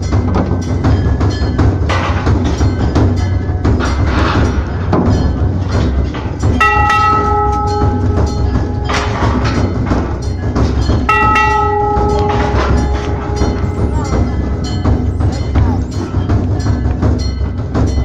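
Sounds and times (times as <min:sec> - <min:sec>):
knocks and clatter: 0:00.0 - 0:18.0
metal temple bell ringing: 0:00.0 - 0:18.0
steady low rumble: 0:00.0 - 0:18.0.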